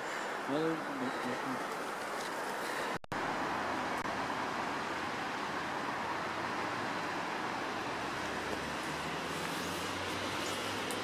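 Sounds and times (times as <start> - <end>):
outdoor hiss and hum: 0.0 - 11.0.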